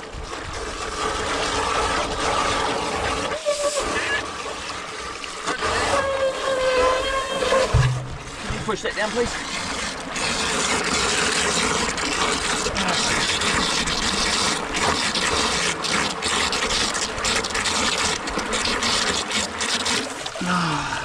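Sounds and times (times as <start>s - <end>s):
water gushing into trough: 0.0s - 21.0s.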